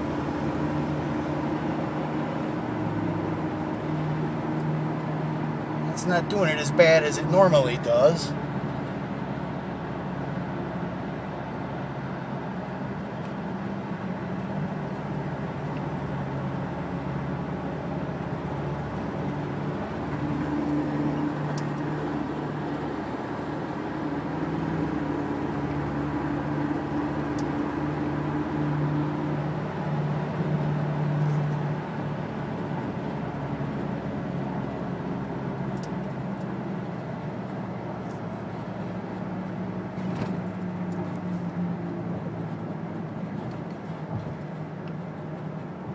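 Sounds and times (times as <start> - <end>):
road noise: 0.0 - 45.9.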